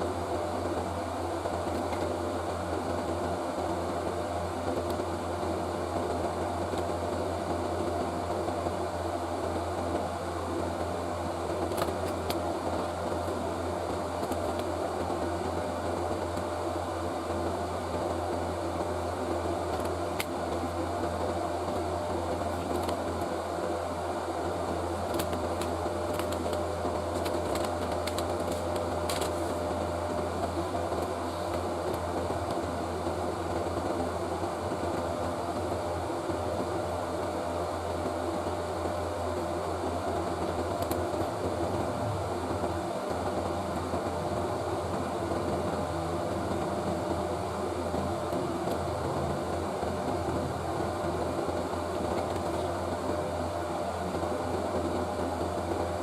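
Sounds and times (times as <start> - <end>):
electric fan humming: 0.0 - 56.0.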